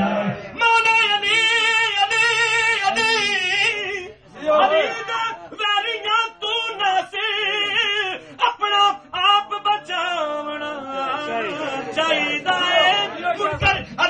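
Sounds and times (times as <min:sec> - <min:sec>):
man singing: 0:00.6 - 0:14.0.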